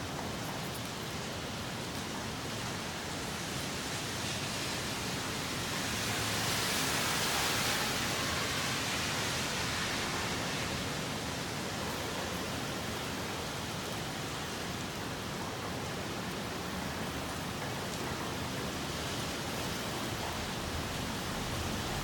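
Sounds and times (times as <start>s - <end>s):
heavy rain: 0.0s - 22.0s
strong wind: 1.1s - 22.0s.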